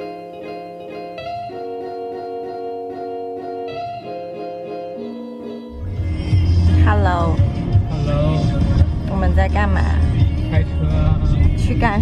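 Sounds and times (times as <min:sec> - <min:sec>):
soft plucked guitar chords: 0:00.0 - 0:12.0.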